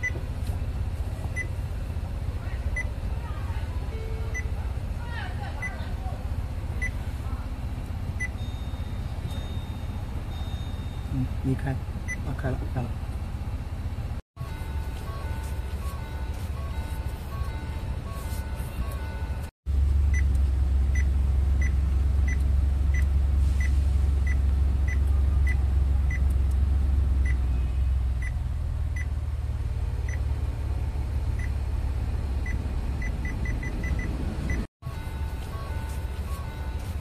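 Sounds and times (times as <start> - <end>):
low cabin rumble: 0.0 - 37.0.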